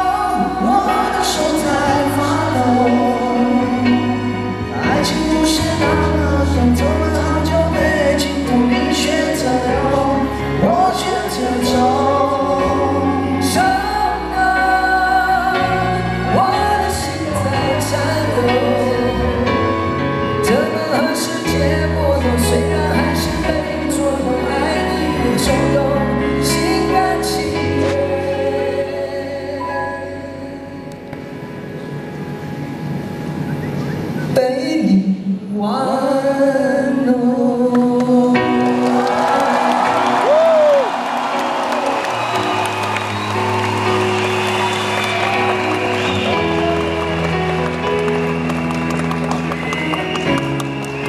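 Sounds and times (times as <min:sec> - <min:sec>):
person singing: 0:00.0 - 0:31.2, 0:34.2 - 0:44.3
live band playing: 0:00.0 - 0:34.4, 0:37.8 - 0:51.0.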